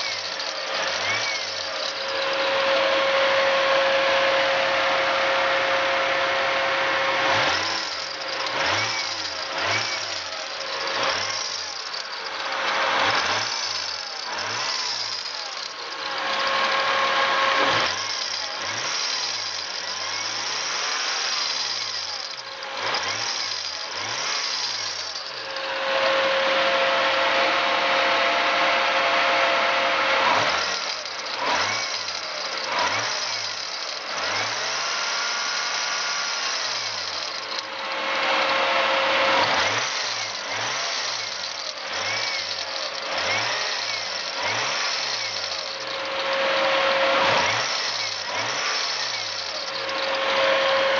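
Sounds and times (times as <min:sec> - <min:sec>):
metallic clashing of drive belt: 0:00.0 - 0:03.4, 0:07.2 - 0:27.5, 0:30.0 - 0:50.9
car engine idling and revving: 0:00.0 - 0:50.9.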